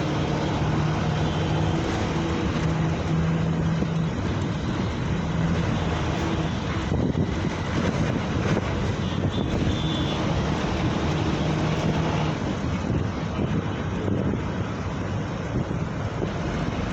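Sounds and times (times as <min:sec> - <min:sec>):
low engine hum: 0:00.0 - 0:16.9
vehicle rumble: 0:00.0 - 0:16.9
wind buffeting microphone: 0:00.0 - 0:16.9.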